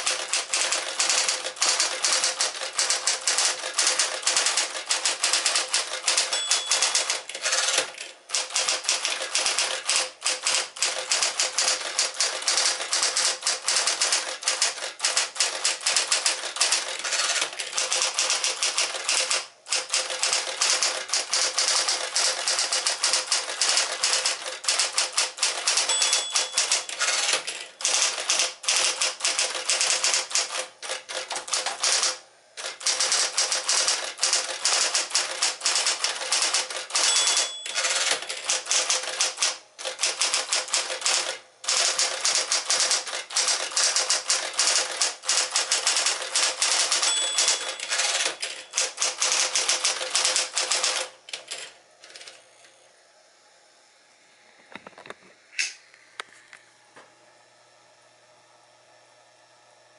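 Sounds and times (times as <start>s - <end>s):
electric typewriter typing: 0.0s - 52.4s
typewriter motor hum: 0.0s - 52.7s.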